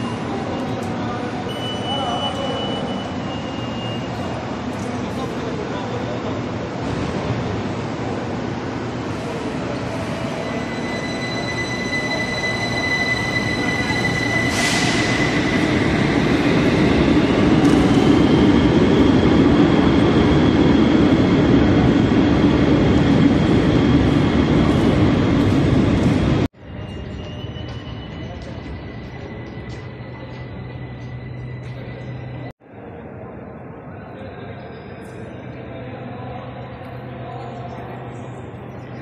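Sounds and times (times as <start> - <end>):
train rumble: 2.3 - 33.8.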